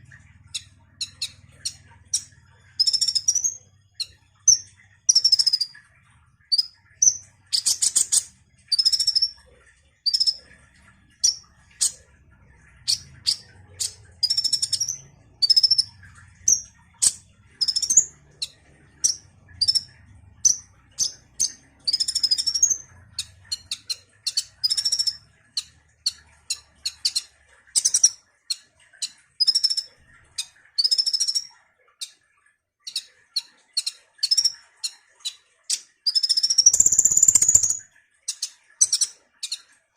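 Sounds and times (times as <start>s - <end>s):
bird chirping and trilling: 0.0s - 32.2s, 32.8s - 39.8s.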